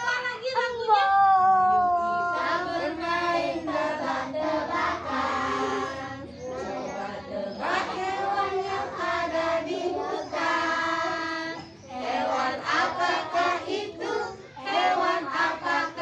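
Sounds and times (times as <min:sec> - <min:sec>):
children singing: 0:02.0 - 0:16.0.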